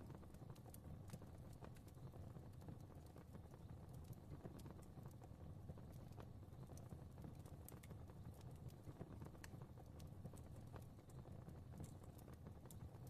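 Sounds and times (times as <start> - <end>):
fire crackling: 0.0 - 13.0.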